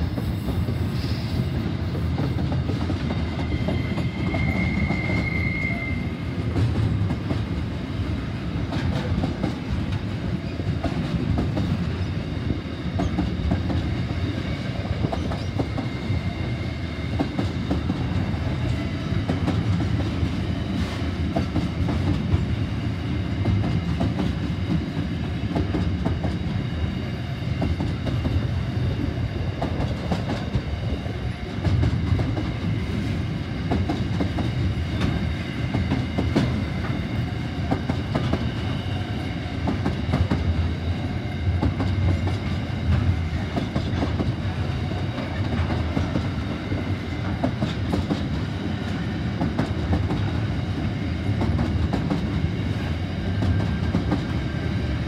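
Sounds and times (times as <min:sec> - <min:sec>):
freight train wheels clattering: 0:00.0 - 0:55.0.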